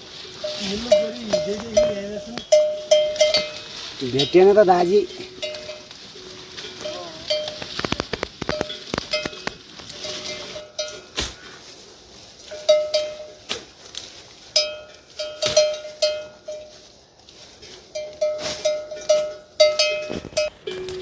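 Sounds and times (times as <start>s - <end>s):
livestock bells clanking: 0.0s - 11.2s, 12.4s - 13.5s, 14.4s - 16.9s, 17.8s - 21.0s.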